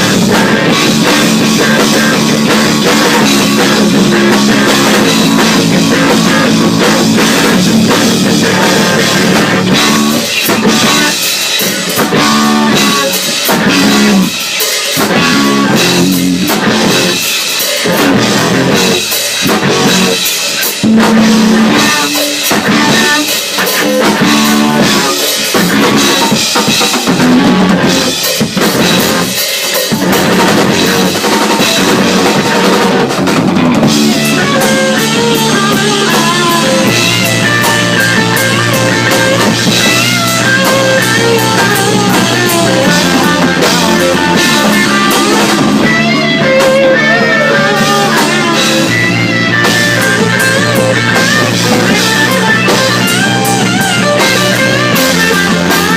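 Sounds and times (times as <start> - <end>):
loud rock music: 0.0 - 55.9.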